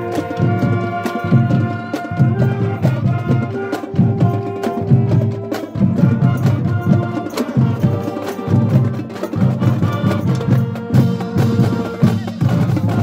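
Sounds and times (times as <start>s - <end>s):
drums beating: 0.0s - 13.0s
marching band playing: 0.0s - 13.0s.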